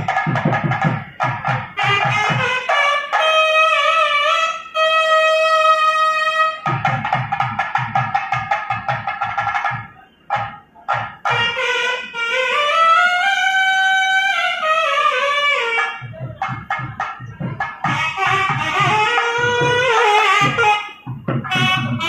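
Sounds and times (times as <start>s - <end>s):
drum beating fast strokes: 0.0s - 5.0s, 5.6s - 22.0s
double-reed wind instrument melody: 0.0s - 7.0s, 9.7s - 22.0s.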